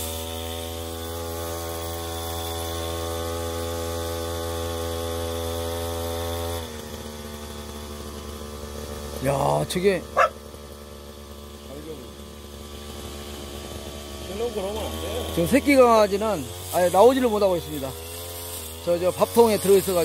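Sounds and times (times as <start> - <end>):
brush cutter engine running: 0.0 - 20.0.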